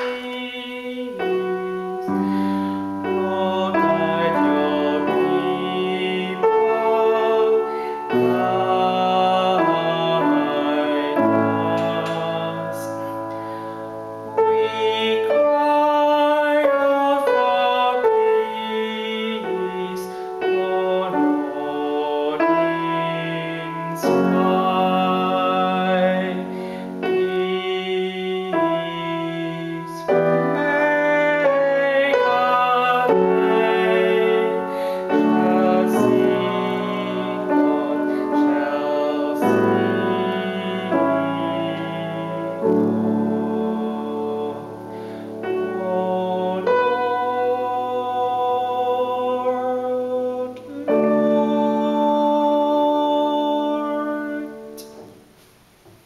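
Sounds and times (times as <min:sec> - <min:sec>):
slow choral music on keyboard: 0:00.0 - 0:56.0.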